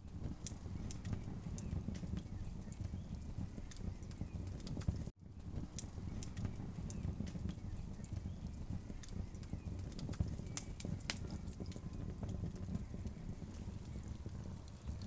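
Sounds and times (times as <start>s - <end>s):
burning logs crackling: 0.0s - 15.0s
fire low rumble: 0.0s - 15.0s
sharp pops of burning wood: 0.2s - 15.0s.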